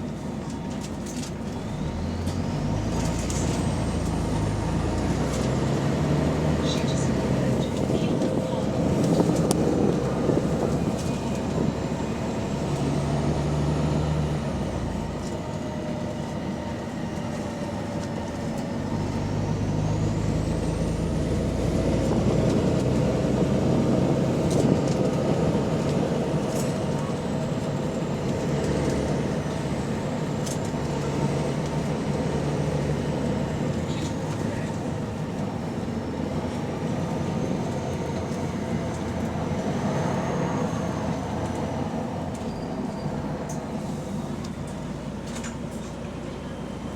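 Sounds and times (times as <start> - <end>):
bus engine pulling away: 0.0 - 46.9.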